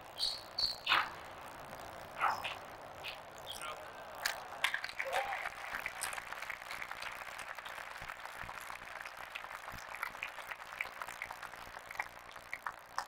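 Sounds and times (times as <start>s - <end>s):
audience applauding: 1.5s - 13.0s.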